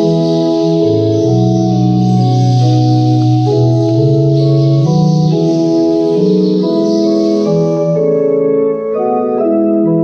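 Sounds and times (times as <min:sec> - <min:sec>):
electronic keyboard hymn chords: 0:00.0 - 0:10.0.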